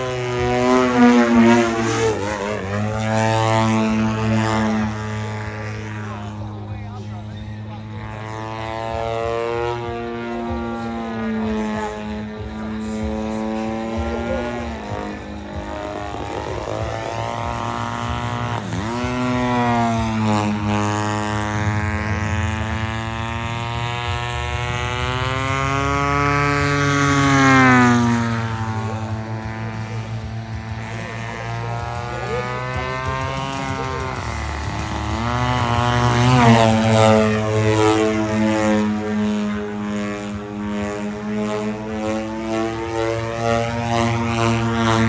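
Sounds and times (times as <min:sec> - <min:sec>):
model airplane engine and propeller: 0:00.0 - 0:45.0.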